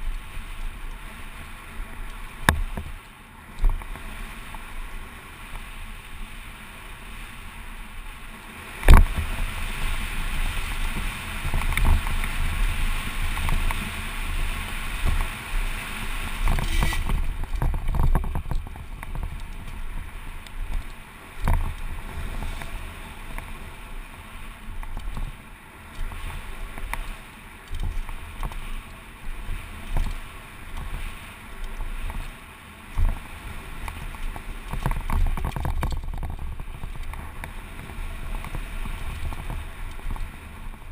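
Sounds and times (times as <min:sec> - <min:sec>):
bike rattling: 0:00.0 - 0:40.9
bike tyres rolling over gravel: 0:00.0 - 0:40.9
wind buffeting camera: 0:00.0 - 0:40.9.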